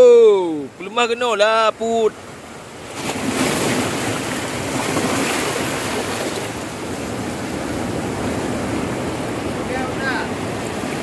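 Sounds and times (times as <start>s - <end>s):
sea waves rushing: 0.0s - 11.0s
wind: 0.0s - 11.0s.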